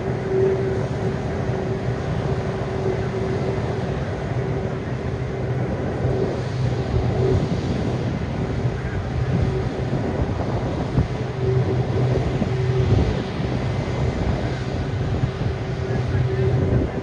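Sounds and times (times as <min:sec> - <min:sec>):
low mechanical drone: 0:00.0 - 0:17.0
wind buffeting microphone: 0:00.0 - 0:17.0.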